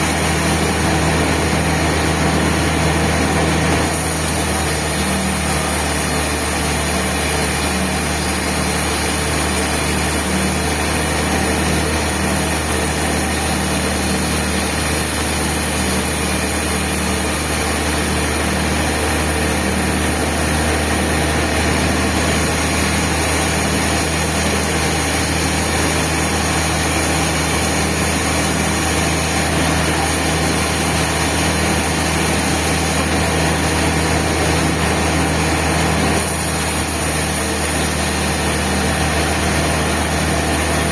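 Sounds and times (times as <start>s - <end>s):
band saw mill humming: 0.0s - 40.9s.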